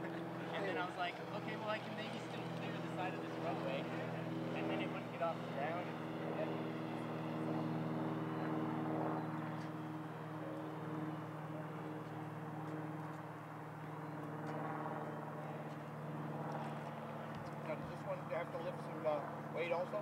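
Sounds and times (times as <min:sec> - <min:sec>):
model airplane propellers buzzing: 0:00.0 - 0:20.0.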